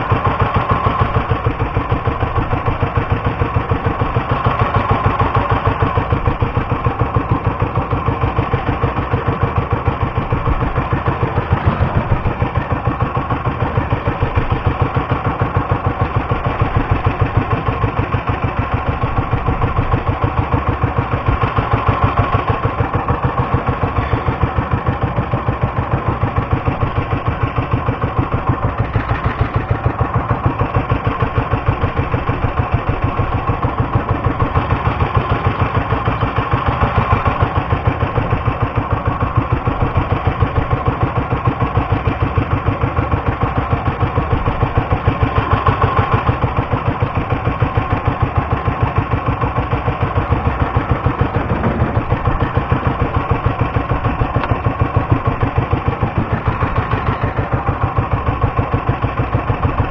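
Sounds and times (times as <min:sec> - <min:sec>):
boat engine puttering: 0:00.0 - 0:59.9.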